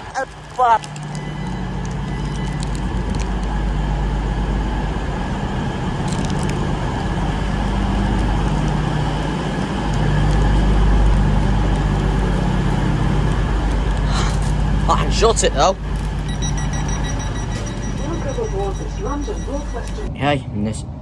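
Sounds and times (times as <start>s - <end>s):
standing trains humming: 0.0s - 20.1s.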